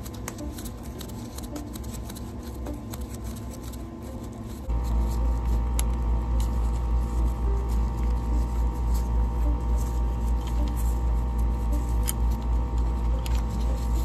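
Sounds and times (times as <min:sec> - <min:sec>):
gloved hands clicking and scratching: 0:00.0 - 0:09.1, 0:09.9 - 0:14.0
low hum with regular throb: 0:00.0 - 0:14.0.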